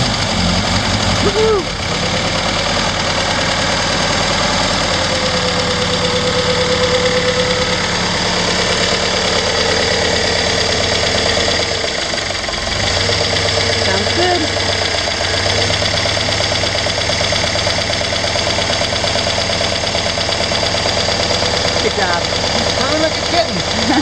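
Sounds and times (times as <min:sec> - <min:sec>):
four-cylinder engine running: 0:00.0 - 0:24.0.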